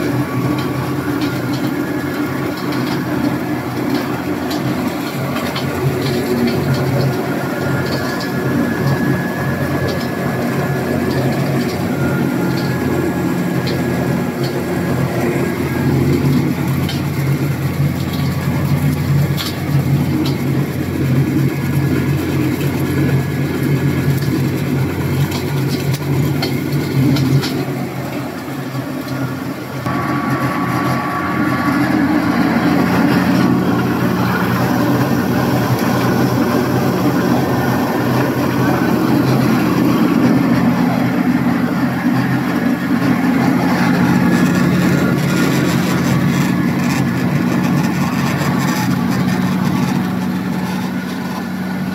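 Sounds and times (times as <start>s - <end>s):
milling machinery humming: 0.0s - 51.9s.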